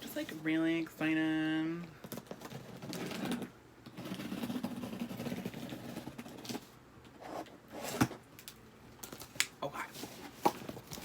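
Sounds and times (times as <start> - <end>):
cardboard and tape rustling: 2.0 - 11.0.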